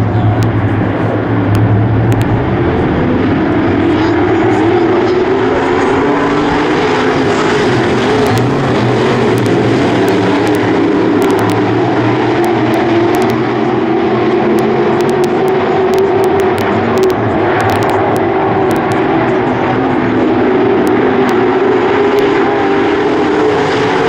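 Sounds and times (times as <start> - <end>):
race car engines at high revs: 0.0 - 24.0.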